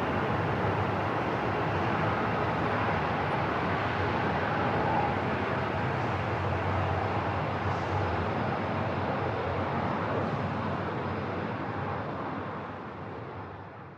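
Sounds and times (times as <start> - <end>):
airport rumble and hiss: 0.0 - 13.9.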